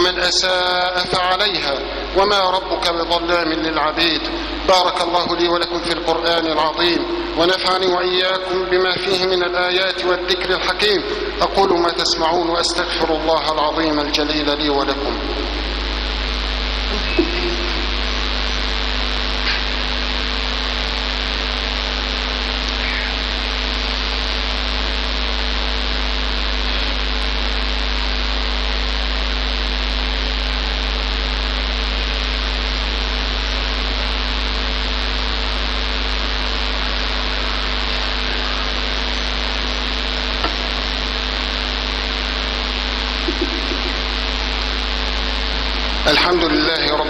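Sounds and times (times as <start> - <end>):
electrical mains hum: 0.0 - 47.0
microphone and amplifier hiss: 0.0 - 47.0.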